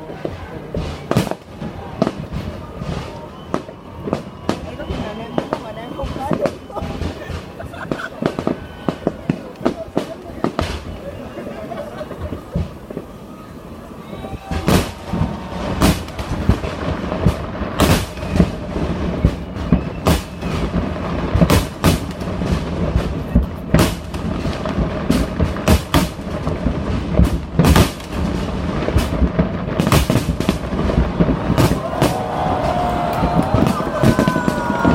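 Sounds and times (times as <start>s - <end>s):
fireworks rumbling bursts: 0.0s - 34.9s
fireworks sharp bangs: 0.0s - 34.9s.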